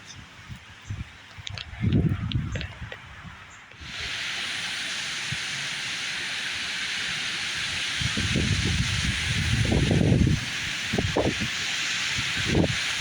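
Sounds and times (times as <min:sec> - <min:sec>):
wind rumbling on microphone: 0:00.0 - 0:05.7, 0:07.2 - 0:13.0
wind through trees: 0:00.0 - 0:13.0.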